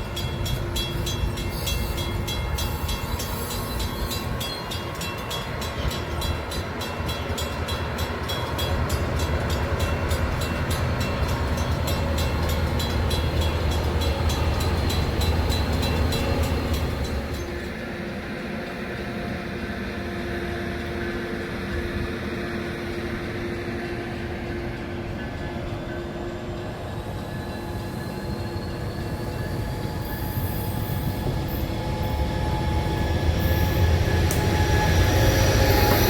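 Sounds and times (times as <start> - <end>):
train rumbling past: 0.0 - 36.0.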